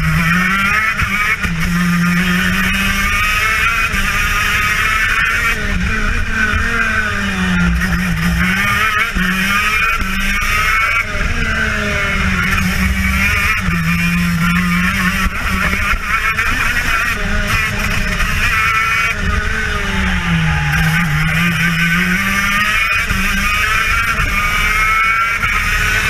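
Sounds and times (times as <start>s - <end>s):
kart engine at racing speed: 0.0s - 26.0s.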